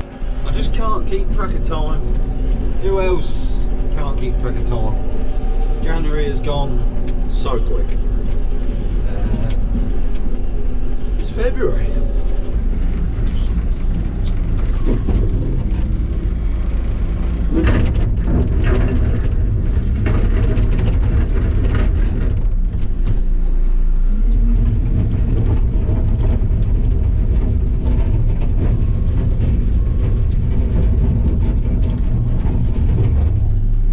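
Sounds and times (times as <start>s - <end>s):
tractor engine running: 0.0s - 33.9s
stones rattling and scraping: 0.6s - 23.5s, 24.3s - 33.5s.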